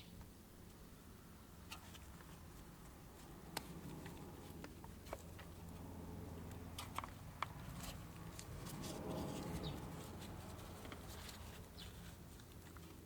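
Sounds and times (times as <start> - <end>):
steady low hum: 0.2 - 13.0
soft rustle: 1.6 - 13.0.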